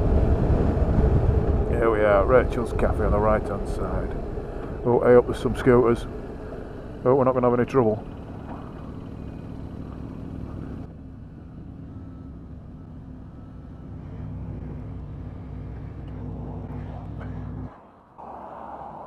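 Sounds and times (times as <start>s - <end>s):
motorcycle engine at low revs: 0.0s - 17.8s.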